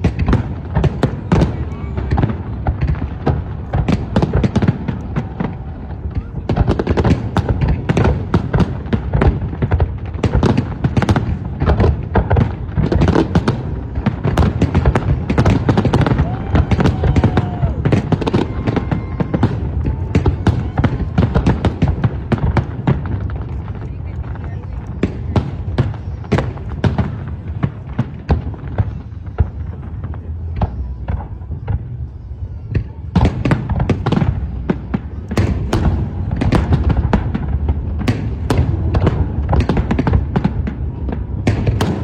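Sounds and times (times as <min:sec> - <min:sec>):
fireworks bangs and booms: 0:00.0 - 0:42.0
low rumble of echoing explosions: 0:00.0 - 0:42.0.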